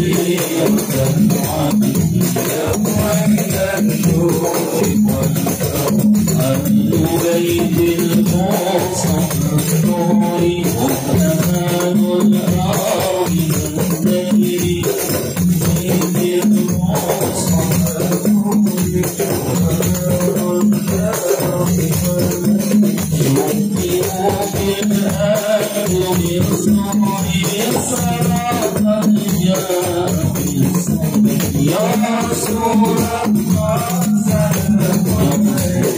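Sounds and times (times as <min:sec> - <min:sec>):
hand percussion: 0:00.0 - 0:35.9
men chanting in unison: 0:00.0 - 0:35.9.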